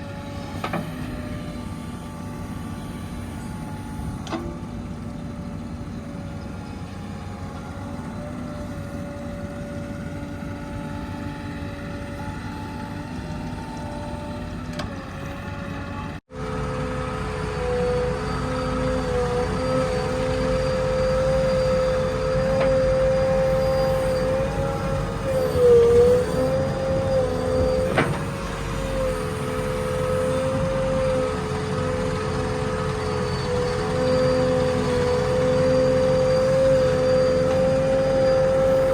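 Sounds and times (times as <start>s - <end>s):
engine whine: 0.0s - 38.9s
heavy machinery diesel engine: 0.0s - 38.9s.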